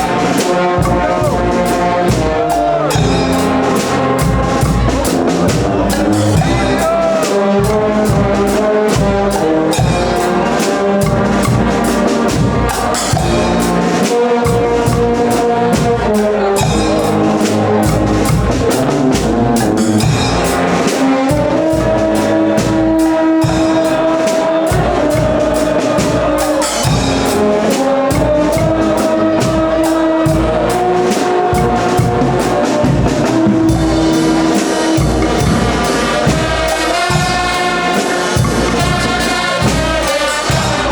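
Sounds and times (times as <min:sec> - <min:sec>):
carnival brass band playing: 0:00.0 - 0:40.9
steady drum beat: 0:00.0 - 0:40.9.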